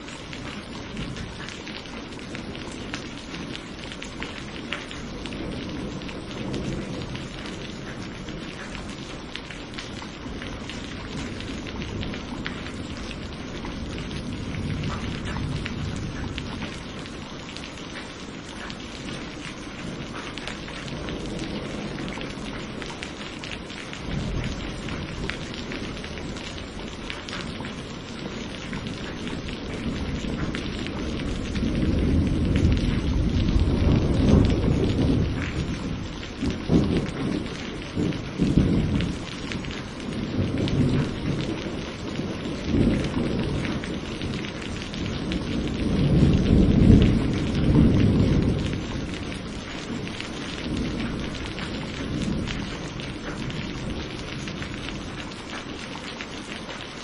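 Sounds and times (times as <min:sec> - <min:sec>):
steady rain: 0:00.0 - 0:57.0
rolling thunder: 0:00.2 - 0:17.3, 0:17.9 - 0:55.4.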